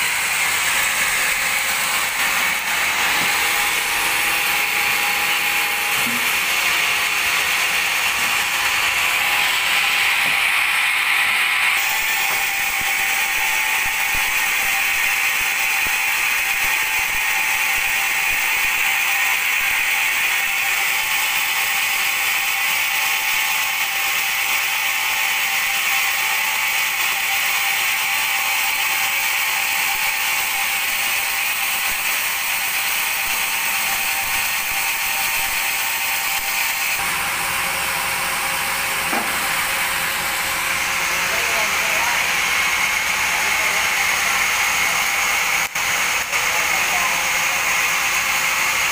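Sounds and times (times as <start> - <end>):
band sawmill hissing and whining: 0.0 - 48.9.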